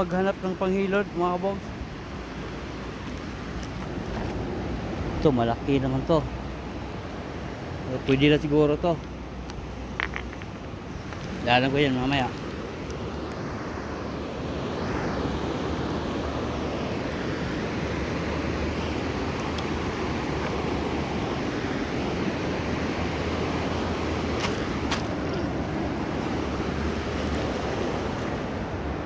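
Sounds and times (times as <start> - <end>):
river water rushing: 0.2 - 29.0.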